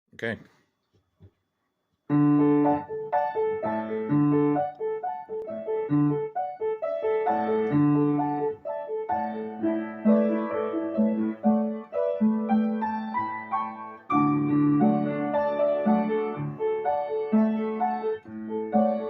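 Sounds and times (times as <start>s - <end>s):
piano playing: 2.1s - 19.0s.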